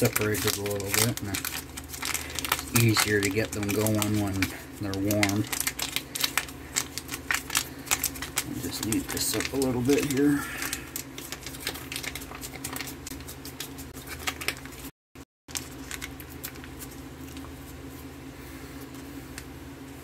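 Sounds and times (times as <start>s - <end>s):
plastic pouch crinkling: 0.0s - 14.9s, 15.5s - 17.5s
steady low hum: 0.0s - 14.9s, 15.5s - 20.0s.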